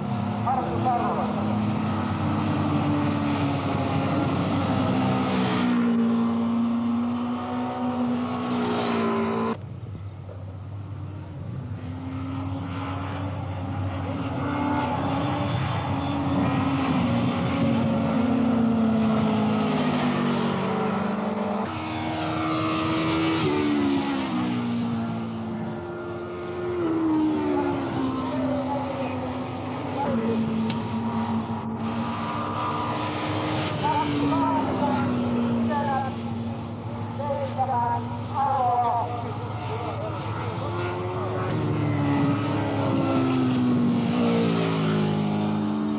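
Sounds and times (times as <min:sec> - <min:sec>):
racing motorcycle engines revving: 0:00.0 - 0:09.6, 0:10.2 - 0:45.9.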